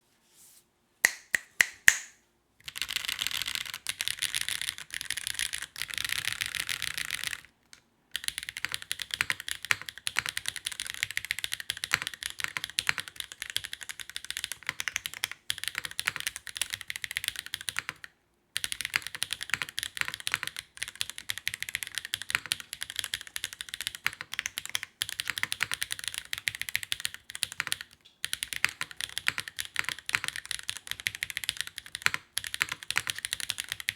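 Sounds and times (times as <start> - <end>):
mechanical keyboard typing: 2.6 - 7.5, 8.1 - 33.9.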